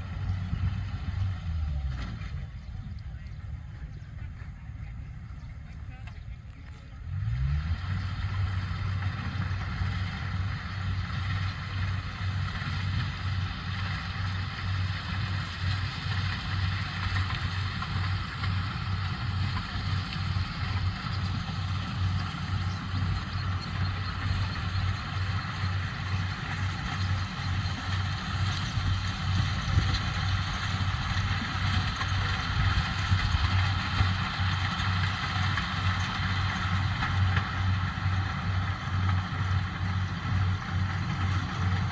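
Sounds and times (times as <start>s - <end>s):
pulsing engine hum: 0.0s - 41.9s.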